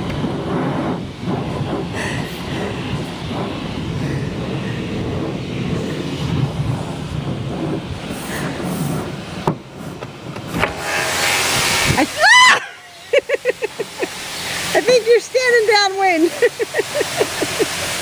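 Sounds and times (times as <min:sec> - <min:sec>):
car wash machinery rumbling: 0:00.0 - 0:18.0
spraying water hiss: 0:00.0 - 0:18.0.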